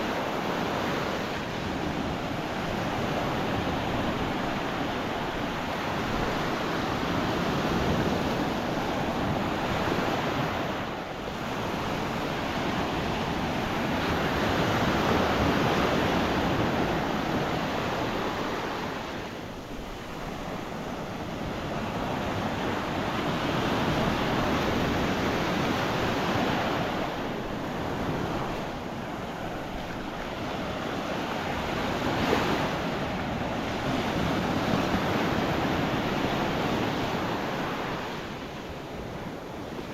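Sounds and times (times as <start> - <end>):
surf breaking on beach: 0.0 - 39.9.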